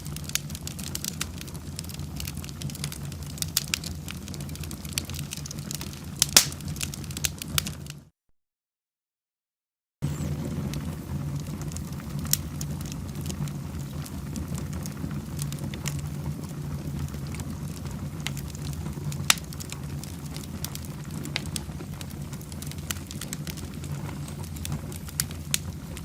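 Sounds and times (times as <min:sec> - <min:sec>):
fire crackling and popping: 0:00.0 - 0:08.1, 0:10.0 - 0:26.0
low rumble of flames: 0:00.0 - 0:08.1, 0:10.0 - 0:26.0.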